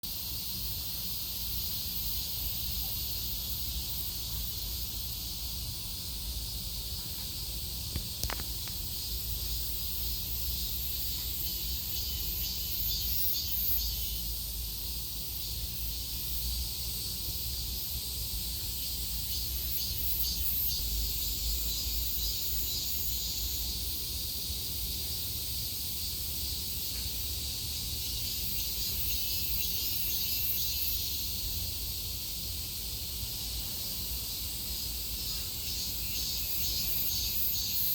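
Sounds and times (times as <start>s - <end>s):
cicadas droning: 0.0s - 37.9s.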